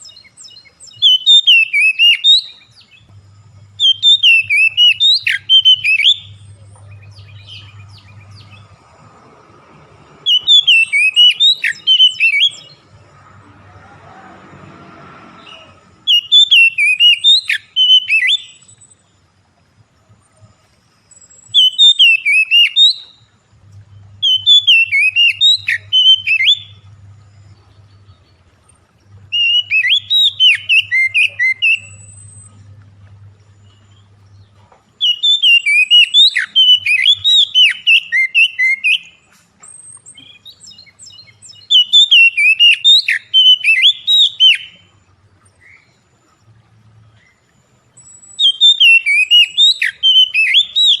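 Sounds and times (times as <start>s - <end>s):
songbird singing: 0.0s - 51.0s.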